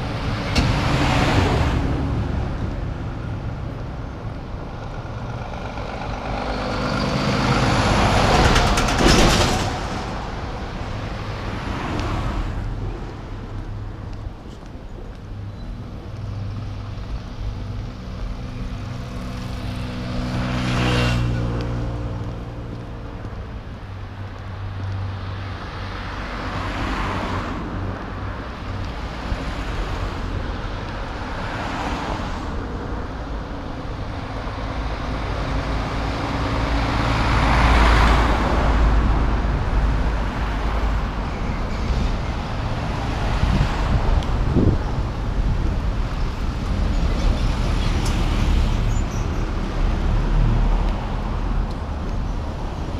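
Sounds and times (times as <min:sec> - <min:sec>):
cars and trucks passing: 0:00.0 - 0:52.9
low traffic rumble: 0:00.0 - 0:52.9.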